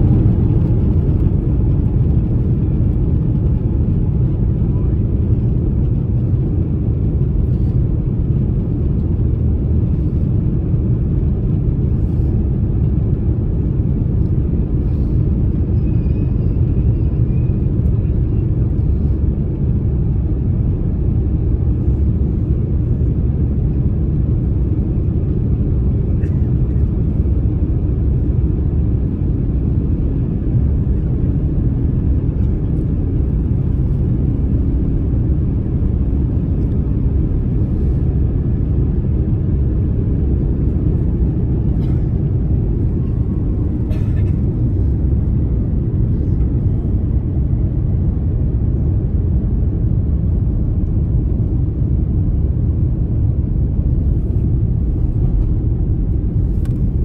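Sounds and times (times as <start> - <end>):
jet engine rumble in cabin: 0.0 - 57.0.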